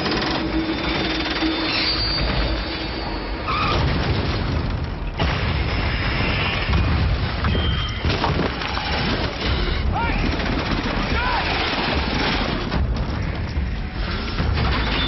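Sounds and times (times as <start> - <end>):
rumble of explosions and debris: 0.0 - 15.0.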